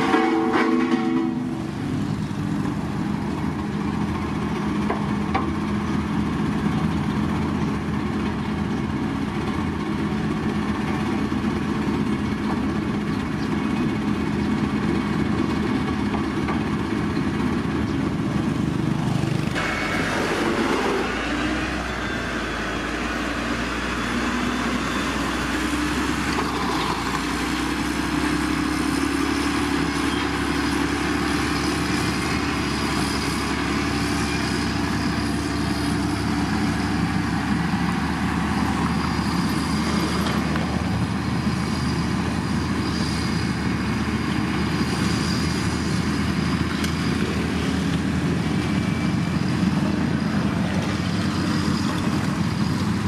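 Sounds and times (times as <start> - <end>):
diesel engines of heavy machinery: 0.0 - 53.0.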